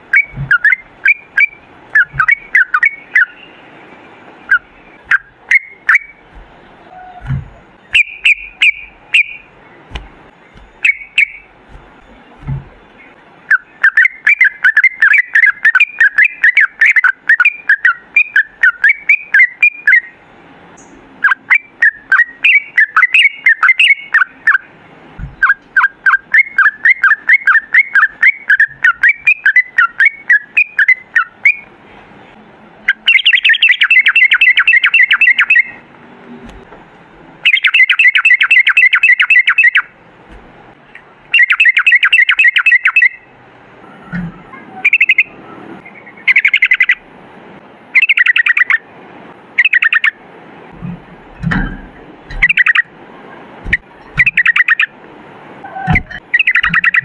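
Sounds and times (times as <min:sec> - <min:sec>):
bulbul singing trills: 0:00.0 - 0:31.7, 0:32.9 - 0:35.8, 0:37.4 - 0:40.0, 0:41.3 - 0:43.3, 0:44.5 - 0:47.0, 0:48.0 - 0:48.8, 0:49.6 - 0:50.2, 0:51.8 - 0:52.9, 0:53.6 - 0:54.9, 0:55.7 - 0:57.0.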